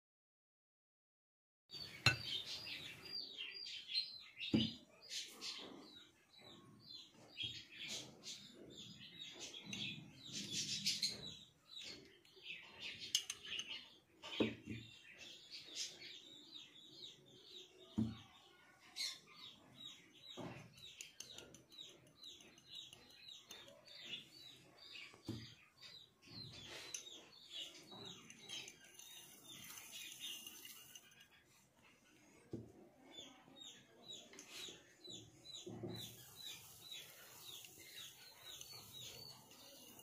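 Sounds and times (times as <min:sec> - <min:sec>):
small birds chirping: 0:01.7 - 0:40.0.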